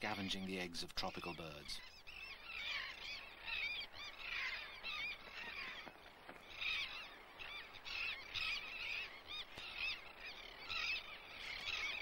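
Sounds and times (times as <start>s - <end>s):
seabird colony calling: 0.0s - 12.0s.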